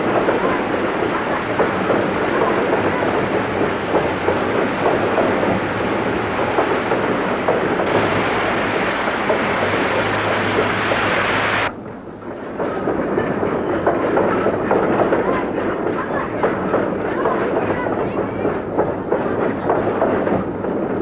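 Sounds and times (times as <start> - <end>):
steam train rumbling on rails: 0.0 - 21.0
wheels clicking over rail joints: 0.0 - 21.0.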